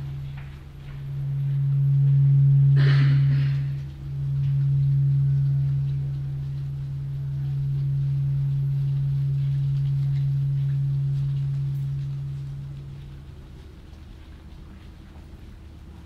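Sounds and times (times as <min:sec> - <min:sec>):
low electronic sine tone: 0:00.0 - 0:16.0.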